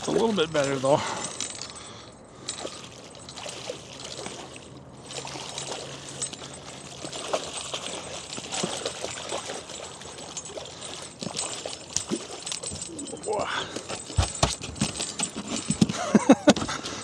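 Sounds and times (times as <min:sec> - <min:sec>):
water trickling and splashing: 0:00.0 - 0:15.8.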